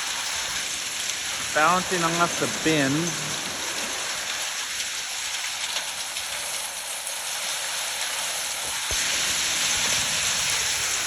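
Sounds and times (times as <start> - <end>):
heavy rain and hail: 0.0 - 11.0.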